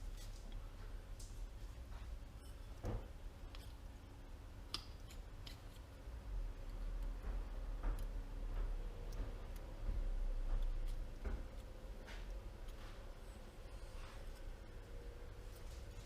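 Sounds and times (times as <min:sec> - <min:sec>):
low workshop hum: 0:00.0 - 0:16.0.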